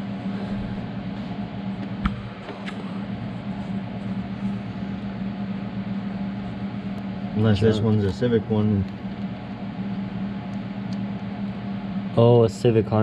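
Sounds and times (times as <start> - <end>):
motor or fan humming: 0.0 - 13.0.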